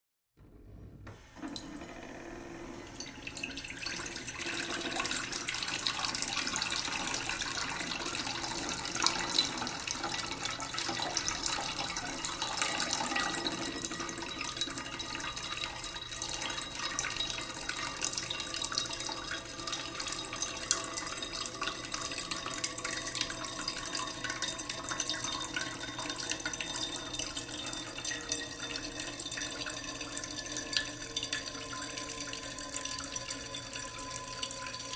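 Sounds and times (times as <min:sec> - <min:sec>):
pot ringing tones: 0:03.0 - 0:34.9
tap water splashing into a pot: 0:03.0 - 0:34.9.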